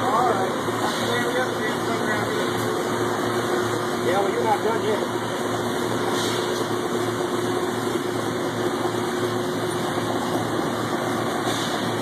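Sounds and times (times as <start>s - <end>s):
bubbling boiling sound: 0.0s - 12.0s
machine hum: 0.0s - 12.0s.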